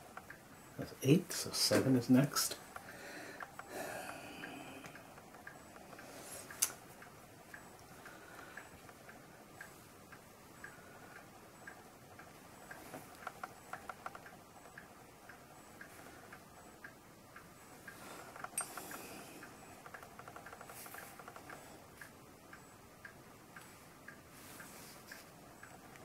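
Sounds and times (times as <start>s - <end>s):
clock ticking faintly: 0.0s - 26.0s.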